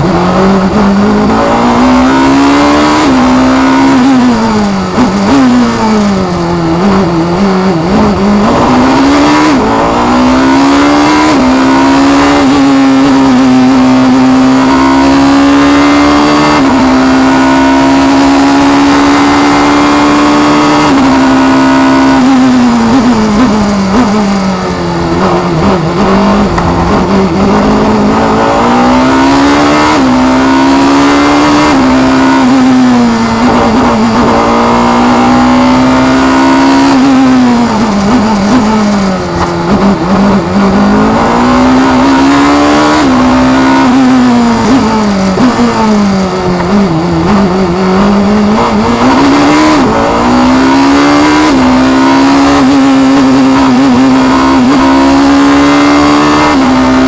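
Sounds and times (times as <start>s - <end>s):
racing engine revving: 0.0s - 57.0s.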